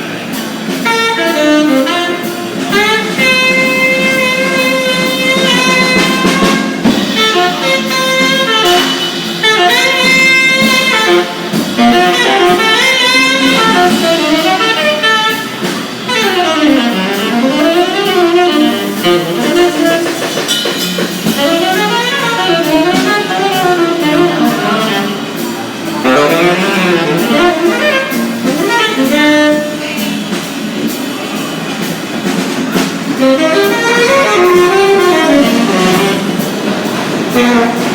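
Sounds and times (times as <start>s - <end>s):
saxophone jazz melody: 0.0s - 37.9s.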